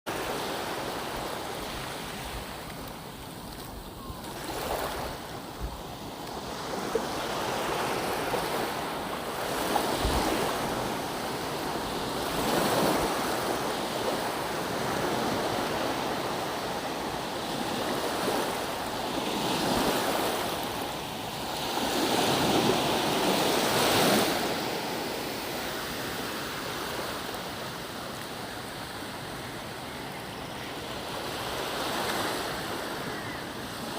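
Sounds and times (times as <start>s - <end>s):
ocean surf washing ashore: 0.1s - 33.9s
wind gusts on microphone: 0.4s - 30.0s.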